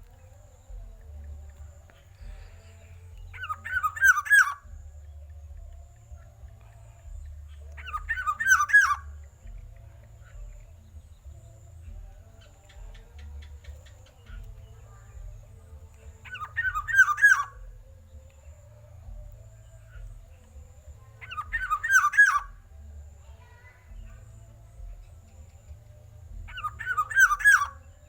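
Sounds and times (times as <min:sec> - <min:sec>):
bird singing fluty whistles: 0:00.0 - 0:15.5, 0:16.2 - 0:22.7, 0:26.4 - 0:28.0.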